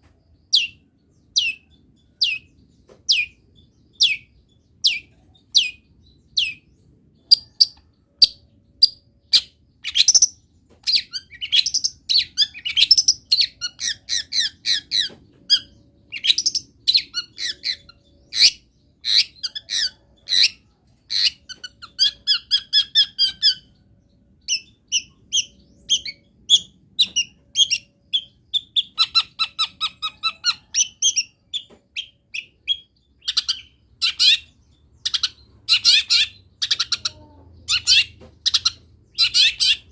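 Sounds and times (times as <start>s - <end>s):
shrike singing varied chirps: 0.0s - 39.9s.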